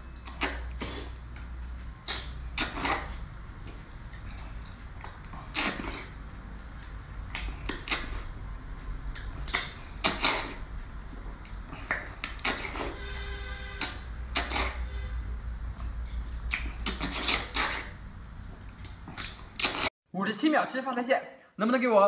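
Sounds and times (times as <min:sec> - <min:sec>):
low steady hum: 0:00.0 - 0:19.6
wet slurping and chewing: 0:00.2 - 0:13.0, 0:13.8 - 0:19.9.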